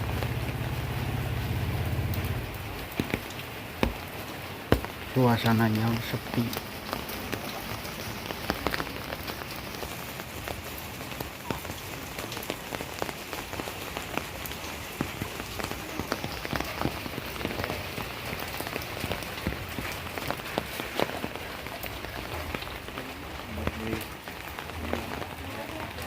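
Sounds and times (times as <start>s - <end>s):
raindrops tapping: 0.0s - 26.0s
steady rain hiss: 0.0s - 26.0s.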